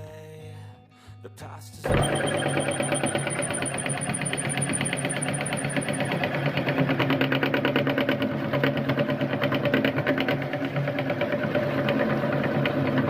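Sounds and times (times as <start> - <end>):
meat grinder motor rattling: 1.9 - 13.0.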